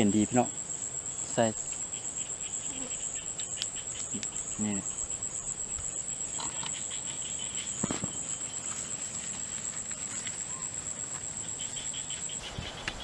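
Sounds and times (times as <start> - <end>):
crickets trilling: 0.0 - 13.0
soft insect chirps: 0.0 - 13.0.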